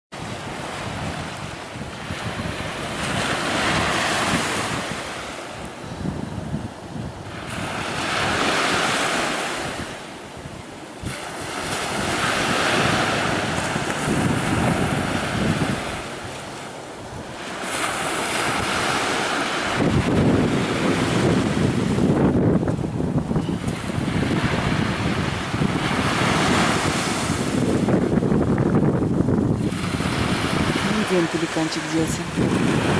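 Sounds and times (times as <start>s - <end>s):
wind buffeting microphone: 0.1s - 32.9s
surf washing on sandy beach: 0.2s - 32.9s.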